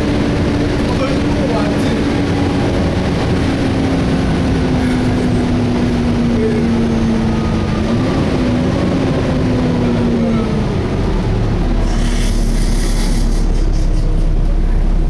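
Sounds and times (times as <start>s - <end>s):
bus engine and cooling fan: 0.0s - 15.0s
low rumble: 0.0s - 15.0s.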